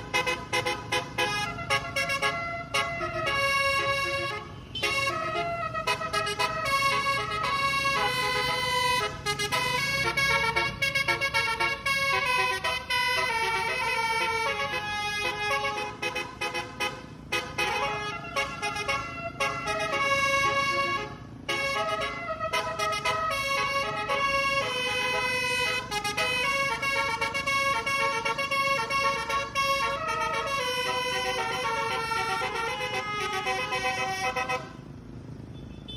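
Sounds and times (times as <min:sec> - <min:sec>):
multi-trumpet air horn playing a tune: 0:00.0 - 0:34.8.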